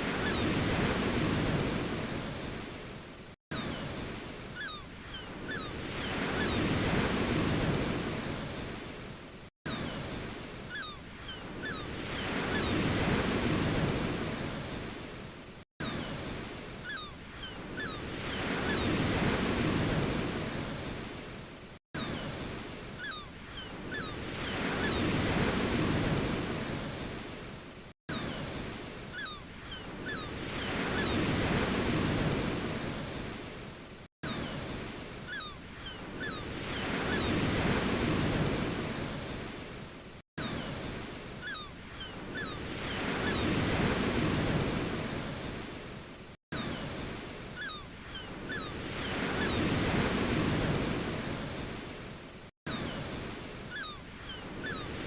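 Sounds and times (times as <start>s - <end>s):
ocean waves washing in: 0.0s - 55.0s.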